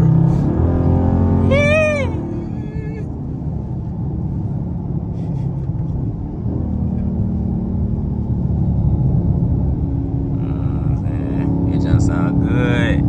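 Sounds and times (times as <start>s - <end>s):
car engine exhaust drone: 0.0s - 13.0s.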